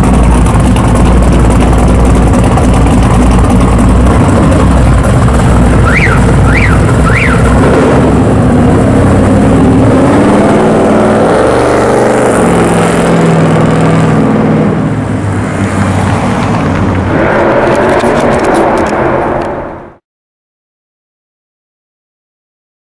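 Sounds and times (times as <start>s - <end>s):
loud car engine revving: 0.0s - 20.0s.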